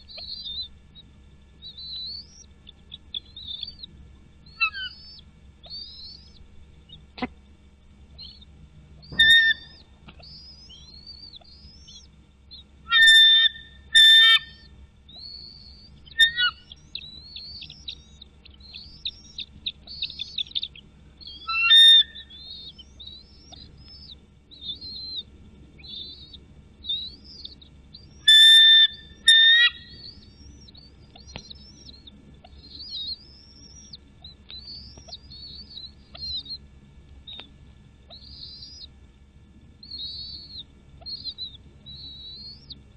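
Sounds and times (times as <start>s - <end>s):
loud whistled bird calls: 0.0s - 7.3s, 8.1s - 36.6s, 37.3s - 39.0s, 39.8s - 42.8s
birds twittering: 0.0s - 42.9s.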